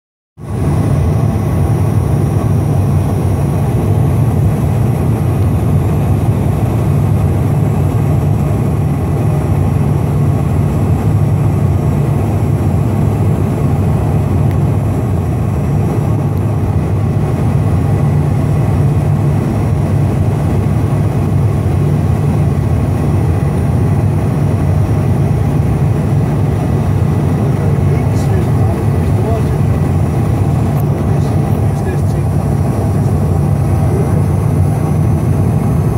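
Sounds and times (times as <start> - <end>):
airflow rush: 0.4 - 35.9
jet engine drone: 0.4 - 35.9.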